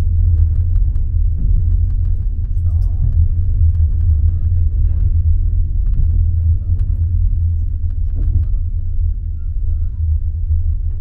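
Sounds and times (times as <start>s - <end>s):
train carriage rumbling on track: 0.0s - 11.0s.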